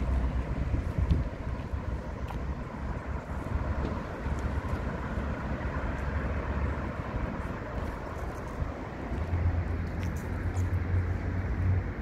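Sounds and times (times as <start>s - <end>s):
roller skis rolling over asphalt: 0.0s - 11.1s
wind buffeting microphone: 0.0s - 12.0s.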